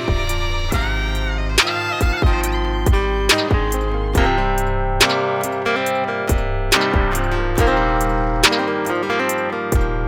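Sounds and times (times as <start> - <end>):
instrumental backing music: 0.0 - 10.0
steady drum beat: 0.0 - 10.0.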